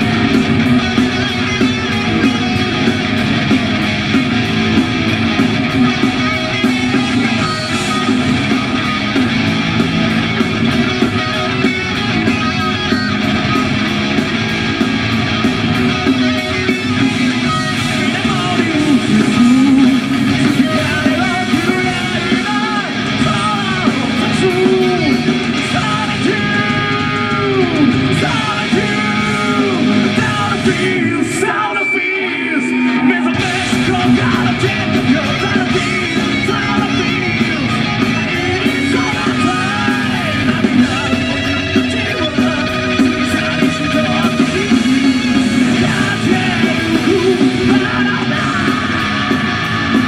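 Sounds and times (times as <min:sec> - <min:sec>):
electric guitar lead melody: 0:00.0 - 0:50.0
heavy metal band playing: 0:00.0 - 0:50.0.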